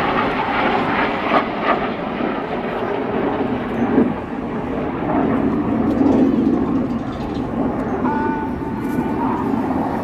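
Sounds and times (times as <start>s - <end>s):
jets flying past: 0.0s - 10.0s.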